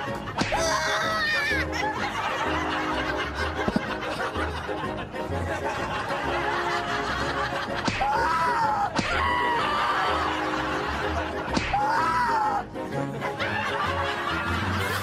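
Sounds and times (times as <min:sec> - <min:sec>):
laugh track: 0:00.0 - 0:15.0
light comedic music with beat: 0:00.0 - 0:15.0.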